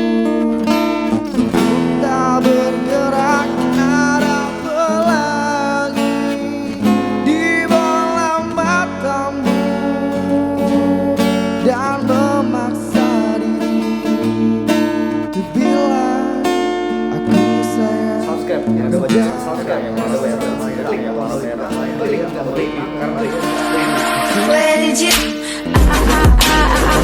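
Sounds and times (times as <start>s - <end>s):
strummed acoustic guitar: 0.0s - 27.0s
person singing with vibrato: 1.4s - 27.0s.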